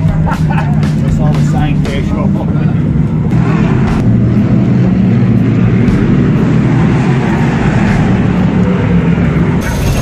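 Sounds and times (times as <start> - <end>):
race car engines running: 0.0 - 10.0.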